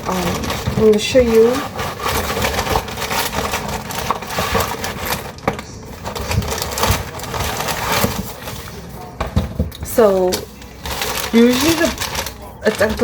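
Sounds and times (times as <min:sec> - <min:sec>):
dry cereal rattling: 0:00.0 - 0:09.0, 0:09.9 - 0:13.0
cereal box packaging crackling: 0:00.0 - 0:13.0.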